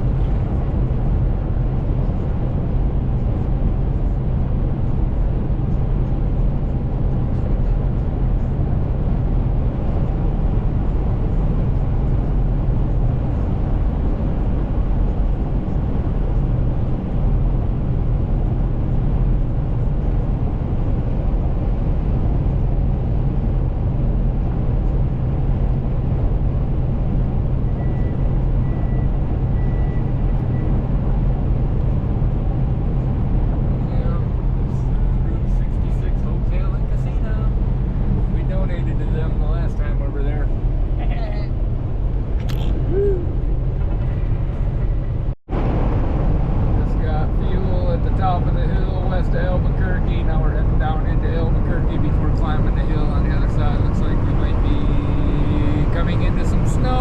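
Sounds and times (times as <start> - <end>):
road and tyre noise: 0.0 - 57.0
truck engine drone: 0.0 - 57.0.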